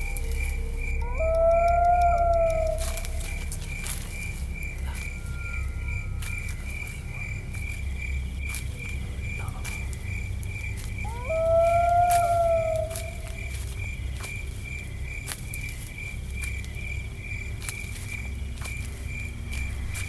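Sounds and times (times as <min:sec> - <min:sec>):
low rumbling drone: 0:00.0 - 0:20.0
night insects chirping: 0:00.0 - 0:20.0.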